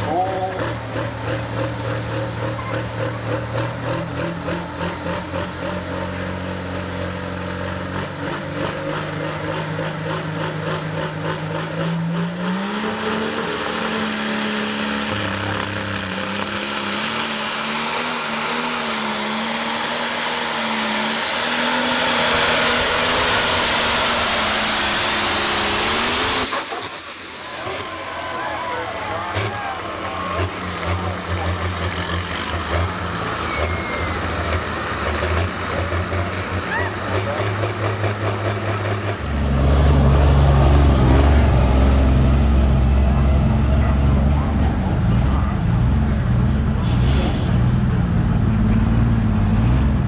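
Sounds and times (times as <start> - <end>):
tractor engine revving: 0.0 - 50.0.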